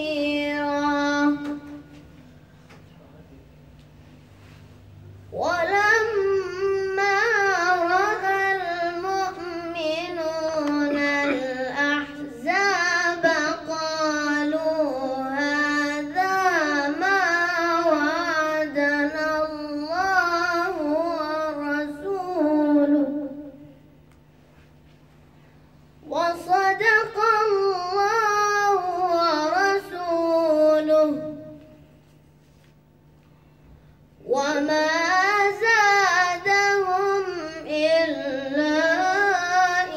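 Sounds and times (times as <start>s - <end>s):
boy chanting: 0.0s - 2.0s, 5.3s - 23.9s, 26.0s - 31.9s, 34.2s - 39.9s.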